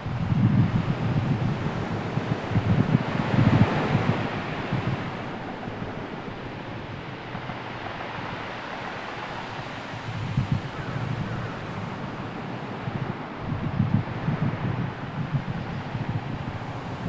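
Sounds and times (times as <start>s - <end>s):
sea surf washing in: 0.0s - 17.0s
wind buffeting microphone: 0.0s - 17.0s.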